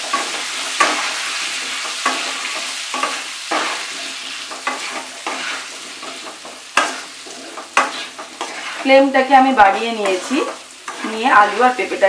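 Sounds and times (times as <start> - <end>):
spatula scraping pan: 0.0 - 12.0
vegetables sizzling in oil: 0.0 - 12.0.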